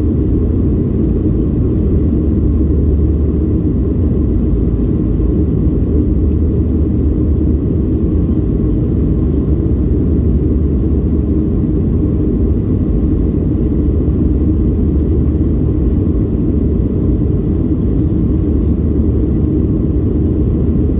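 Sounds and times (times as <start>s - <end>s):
airplane cabin drone: 0.0s - 20.9s.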